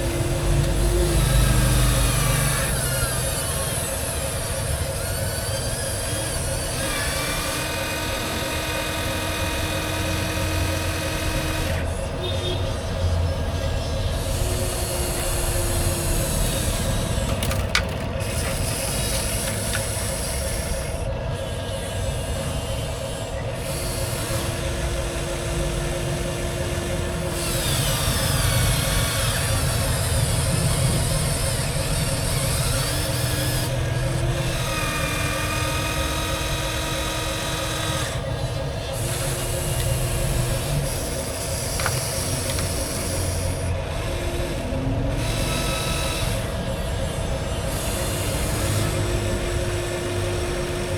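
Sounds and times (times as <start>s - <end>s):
grinding scraping noise: 0.0s - 50.9s
small electric motor whines: 0.0s - 50.9s
steady motor hum: 0.0s - 50.9s.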